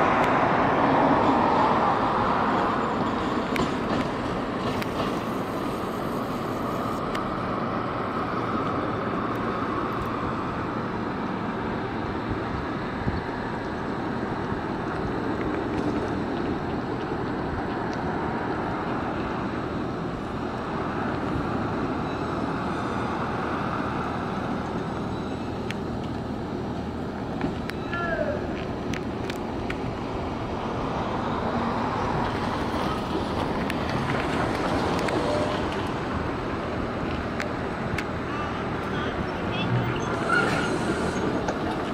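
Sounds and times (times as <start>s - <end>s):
city street traffic: 0.0s - 41.9s
distant tram on tracks: 0.0s - 41.9s
electric trolleybus approaching: 0.0s - 41.9s.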